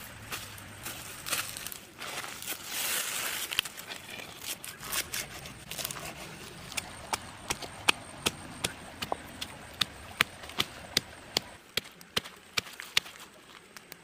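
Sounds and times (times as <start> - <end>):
rustling and handling noise: 0.0 - 14.0.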